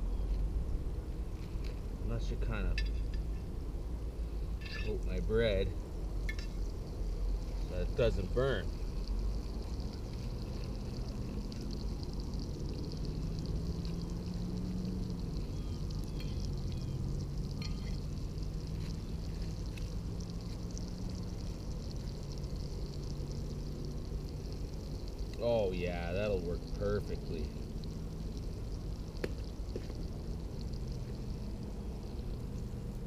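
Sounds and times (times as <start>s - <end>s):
faint low hum: 0.0s - 33.0s
fire crackling: 0.0s - 33.0s
campfire rushing: 0.6s - 33.0s.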